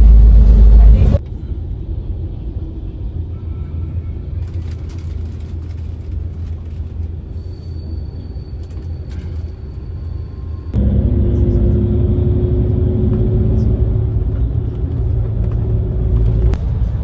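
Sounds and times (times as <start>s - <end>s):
coach engine rumble: 0.0s - 17.0s.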